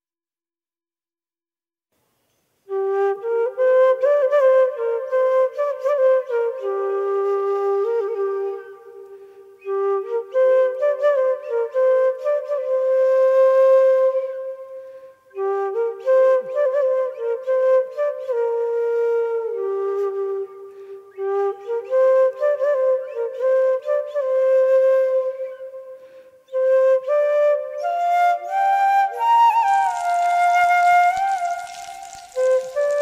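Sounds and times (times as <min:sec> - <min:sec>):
flute melody: 0:02.7 - 0:33.0.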